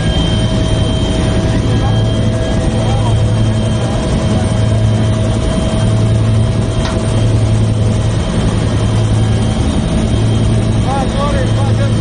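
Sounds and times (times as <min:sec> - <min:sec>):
helicopter engine and rotor drone: 0:00.0 - 0:12.0
thin whine: 0:00.0 - 0:12.0.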